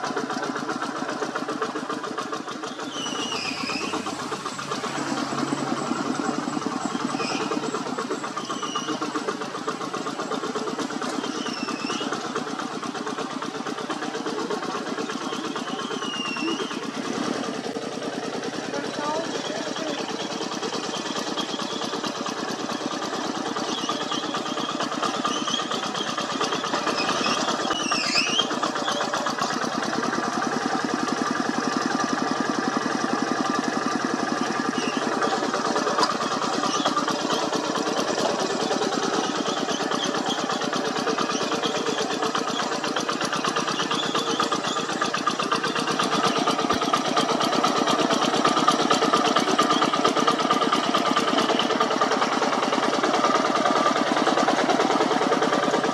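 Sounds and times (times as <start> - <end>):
hand tractor diesel engine running: 0.0 - 55.9.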